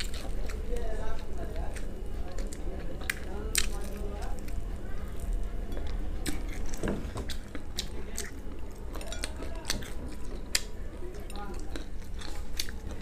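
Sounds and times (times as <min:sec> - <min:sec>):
crunching fried chicken: 0:00.0 - 0:13.0
wet chewing: 0:00.0 - 0:13.0.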